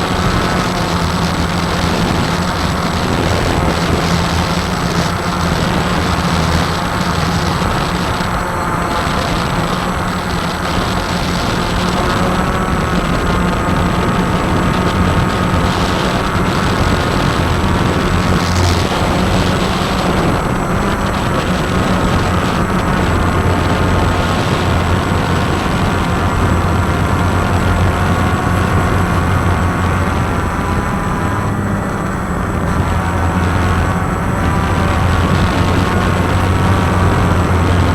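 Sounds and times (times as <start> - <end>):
quadcopter propellers buzzing: 0.0 - 37.9.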